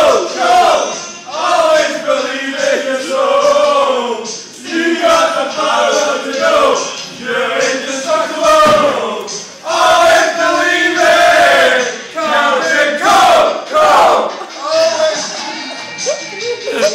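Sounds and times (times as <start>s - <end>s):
men singing a chant: 0.0s - 14.3s.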